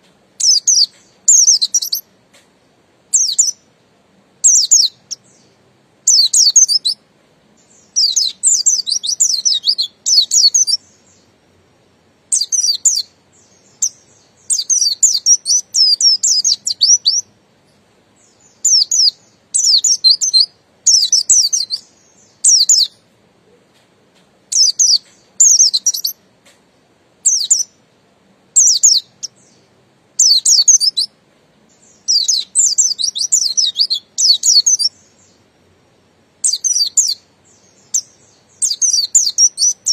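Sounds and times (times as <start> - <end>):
bird twittering song: 0.0 - 3.7, 4.4 - 11.5, 12.3 - 27.8, 28.6 - 39.9.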